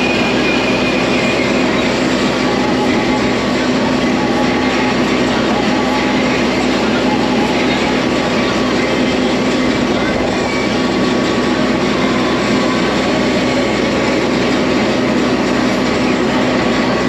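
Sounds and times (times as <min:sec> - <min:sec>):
tram running: 0:00.0 - 0:17.0.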